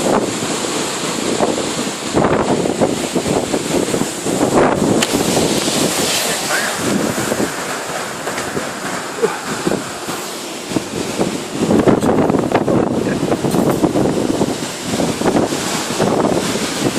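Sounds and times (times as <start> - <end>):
storm wind gusting: 0.0 - 16.9.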